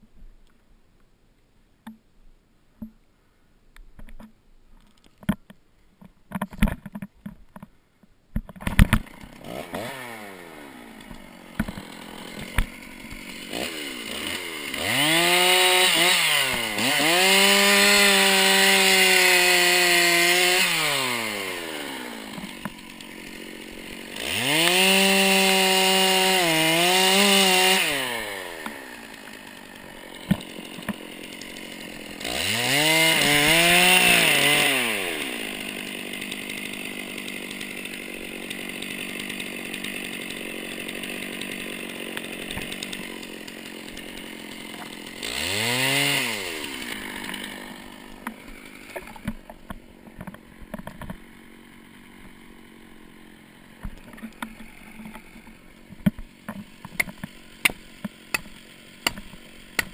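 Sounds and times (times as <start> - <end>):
chainsaw idling and revving: 8.6 - 59.9.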